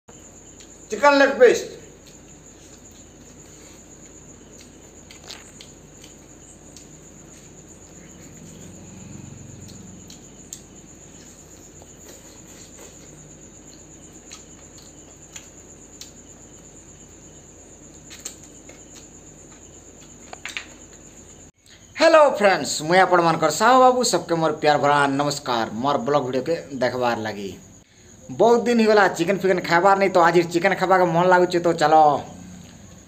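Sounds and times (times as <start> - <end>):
crickets chirping: 0.1 - 33.0.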